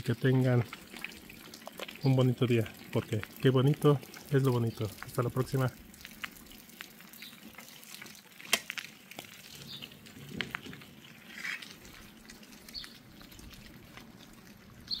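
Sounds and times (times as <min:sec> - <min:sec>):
drips ticking: 0:00.0 - 0:15.0
light rain pattering: 0:00.0 - 0:15.0.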